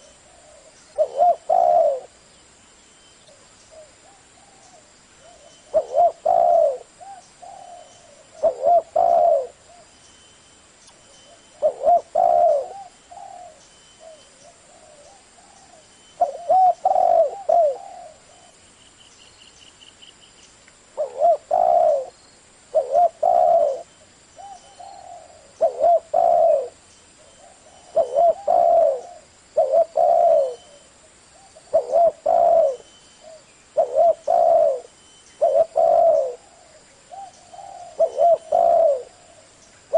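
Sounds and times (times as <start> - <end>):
dove cooing: 0.0 - 2.2, 3.7 - 9.9, 11.3 - 18.6, 21.0 - 39.9.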